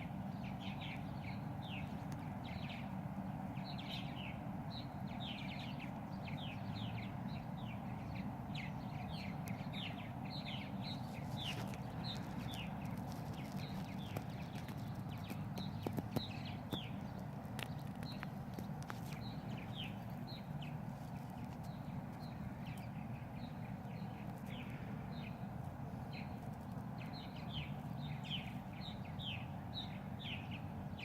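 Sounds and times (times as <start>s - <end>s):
low background rumble: 0.0s - 31.0s
many birds chirping: 0.0s - 31.0s.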